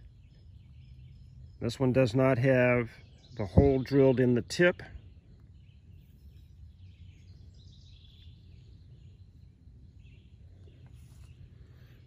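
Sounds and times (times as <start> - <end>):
faint bird chirps: 0.0 - 12.0
low steady rumble: 0.0 - 12.0.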